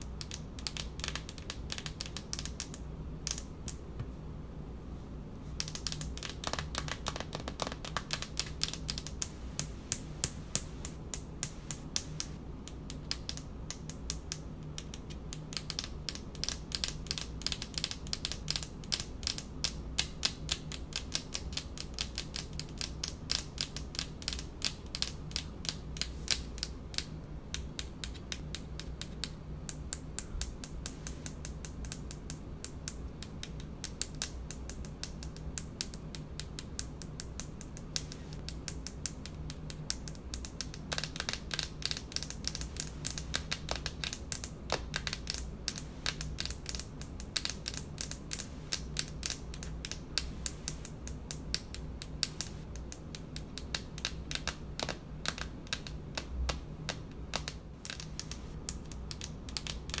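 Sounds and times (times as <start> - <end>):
low steady hum: 0.0 - 60.0.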